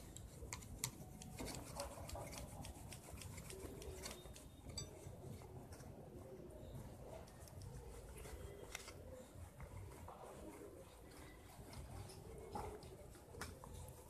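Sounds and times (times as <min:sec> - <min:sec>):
eraser rubbing on circuit board: 0:00.0 - 0:05.2, 0:06.9 - 0:14.0.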